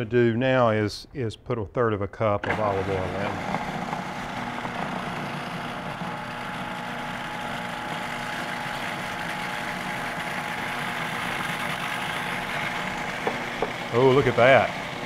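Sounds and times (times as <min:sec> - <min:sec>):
food processor motor running: 0:02.4 - 0:15.0.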